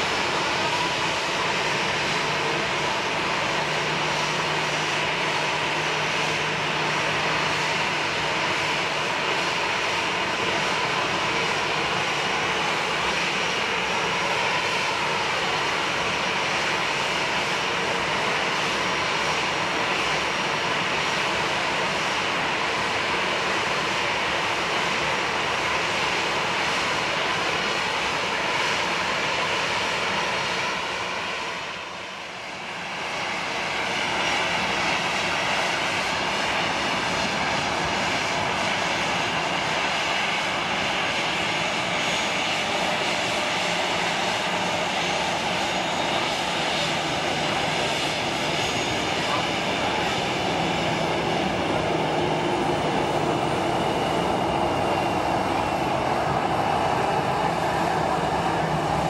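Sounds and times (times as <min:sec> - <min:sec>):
jet engines idling: 0:00.0 - 0:59.0.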